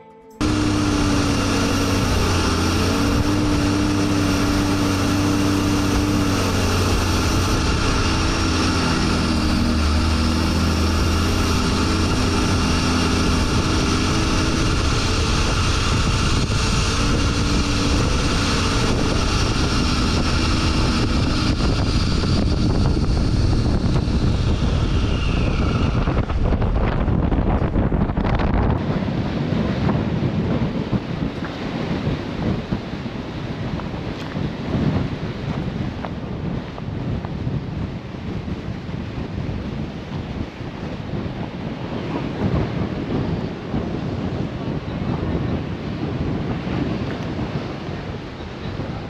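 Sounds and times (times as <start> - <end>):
vehicle engine running: 0.0 - 49.0
wind noise: 0.0 - 49.0.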